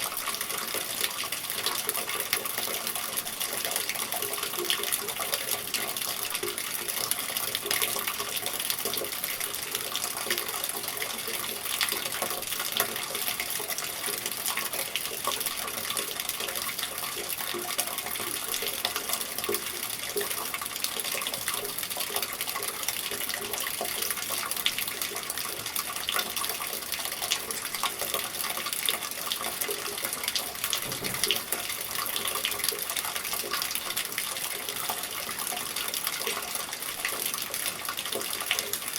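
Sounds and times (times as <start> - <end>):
steady rain: 0.0 - 38.9
water splashing from a gutter: 0.0 - 38.9.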